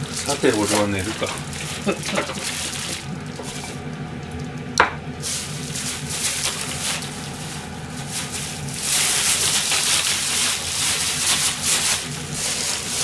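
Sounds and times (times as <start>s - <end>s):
plastic bag crinkling: 0.0s - 3.8s, 5.2s - 13.0s.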